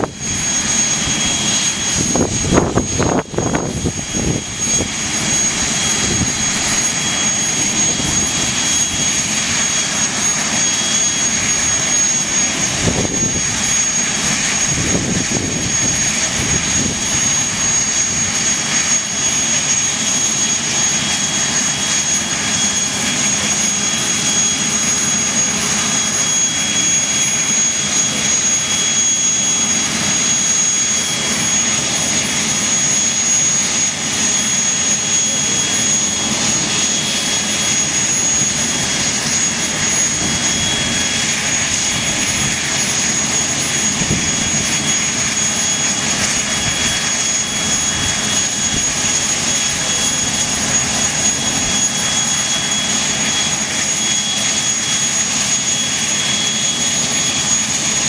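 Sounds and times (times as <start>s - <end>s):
high-pitched engine whine: 0.0s - 58.0s
jet engines roaring: 0.0s - 58.0s.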